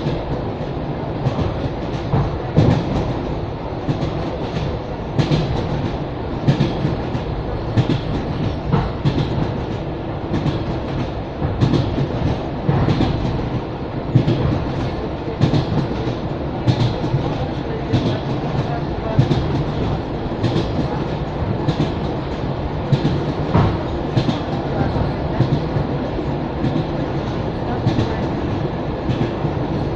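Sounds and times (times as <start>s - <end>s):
train rumble: 0.0s - 29.9s
train wheels clickety-clack: 0.0s - 29.9s.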